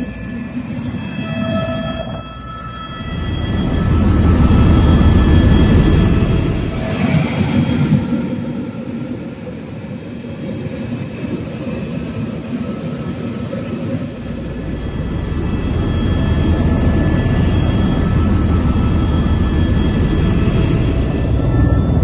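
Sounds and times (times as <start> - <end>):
helicopter rotor rumble: 0.0 - 22.0
high turbine whine: 0.0 - 22.0.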